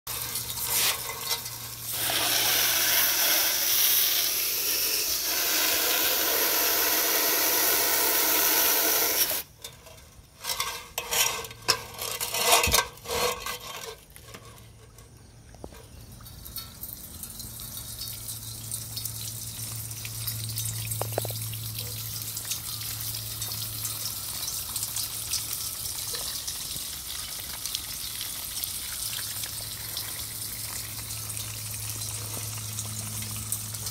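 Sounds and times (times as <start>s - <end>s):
water splashing down rain chain: 0.1s - 9.8s, 16.0s - 33.9s.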